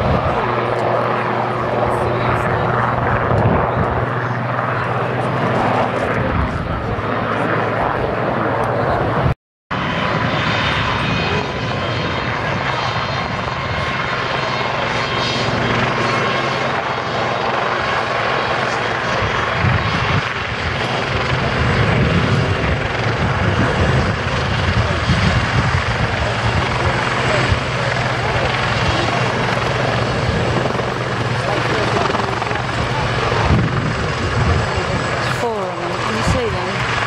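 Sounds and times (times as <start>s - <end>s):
helicopters flying low: 0.0s - 37.0s.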